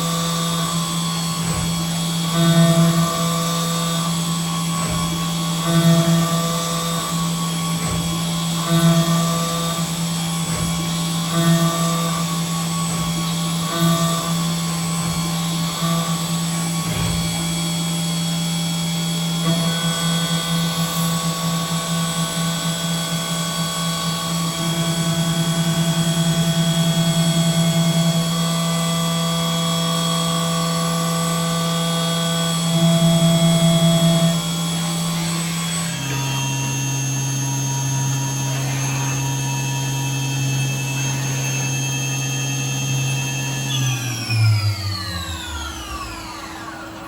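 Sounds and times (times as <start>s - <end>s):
machine tool humming: 0.0s - 47.0s.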